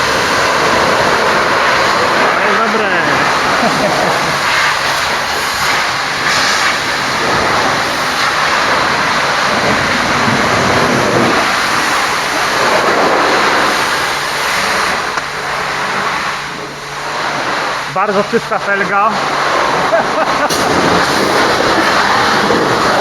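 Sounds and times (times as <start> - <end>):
pressure washer spraying water: 0.0 - 23.0.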